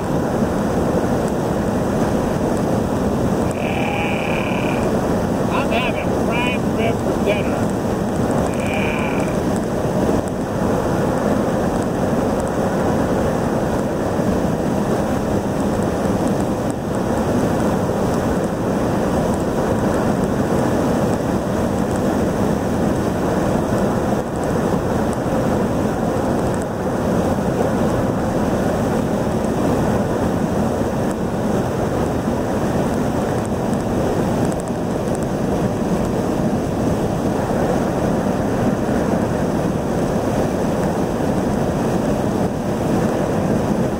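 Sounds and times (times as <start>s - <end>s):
car road and wind noise: 0.0s - 43.9s.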